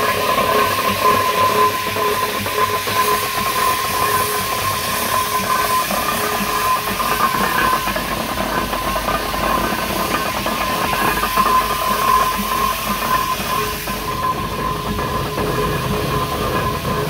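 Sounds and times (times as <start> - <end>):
steam engine mechanical clatter: 0.0 - 17.0
steam hissing: 0.0 - 17.0.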